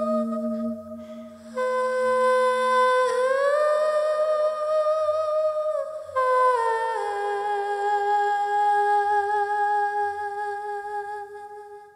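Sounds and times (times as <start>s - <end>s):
slow humming-like melody: 0.0s - 11.9s.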